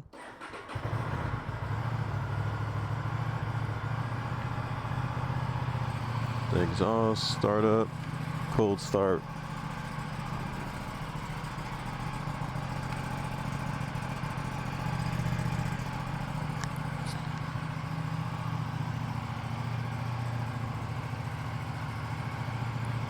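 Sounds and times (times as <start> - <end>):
motorcycle engine idling: 0.4 - 23.0.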